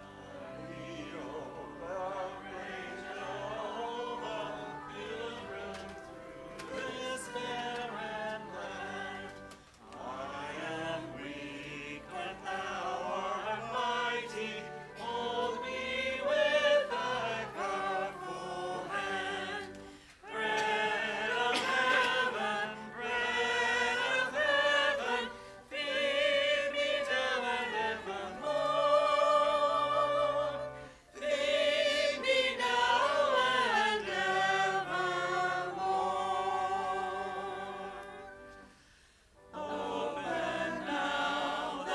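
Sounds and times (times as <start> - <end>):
choir singing: 0.0 - 38.8, 39.4 - 41.9.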